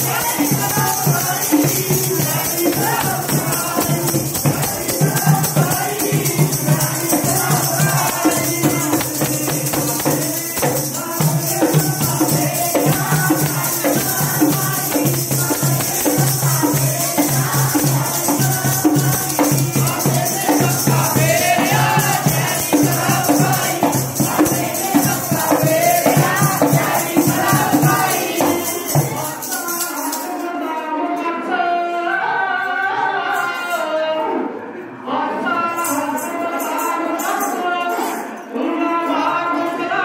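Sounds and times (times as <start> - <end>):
rhythmic percussion: 0.0 - 32.0, 35.5 - 40.0
voices singing a hymn: 0.0 - 40.0.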